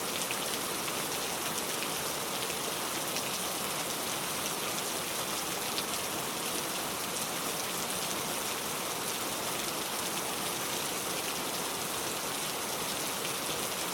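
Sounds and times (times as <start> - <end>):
rain falling on a car: 0.0 - 13.9.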